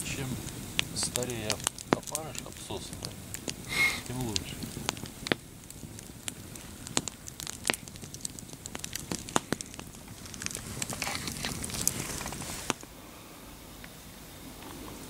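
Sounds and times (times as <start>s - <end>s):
campfire logs crackling: 0.0s - 15.0s.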